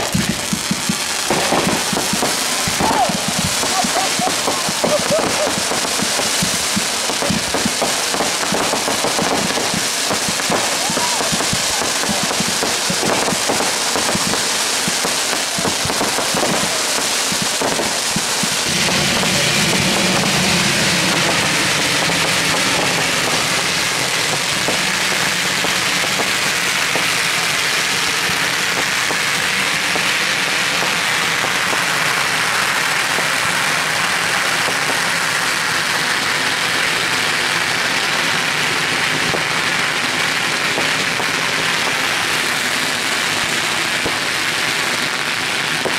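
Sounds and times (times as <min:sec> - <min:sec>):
dense hissing rush: 0:00.0 - 0:38.0
fireworks crackling and popping: 0:00.0 - 0:45.9.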